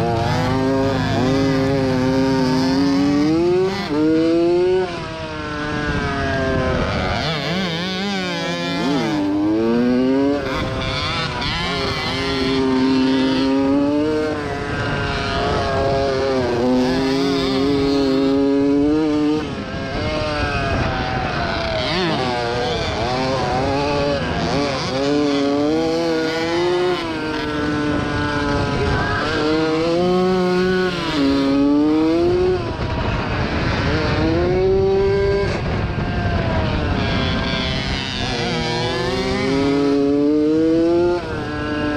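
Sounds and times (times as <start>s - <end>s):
two-stroke motocross engine revving: 0.0s - 41.9s.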